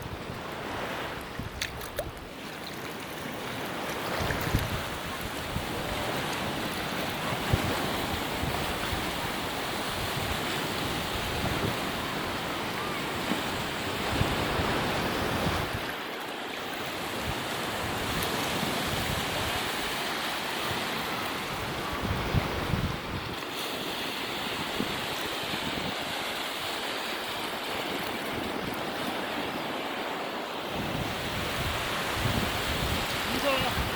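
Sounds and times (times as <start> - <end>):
wind rumbling on microphone: 0.0 - 2.4, 3.4 - 16.0, 16.9 - 33.9
ocean surf washing ashore: 0.0 - 33.9.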